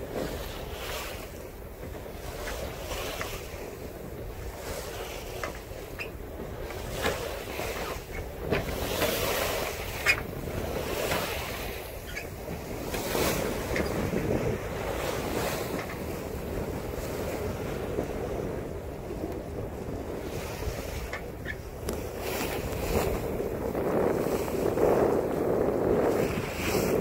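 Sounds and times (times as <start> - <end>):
water washing along boat hull: 0.0 - 27.0
wind rushing over microphone: 0.0 - 27.0.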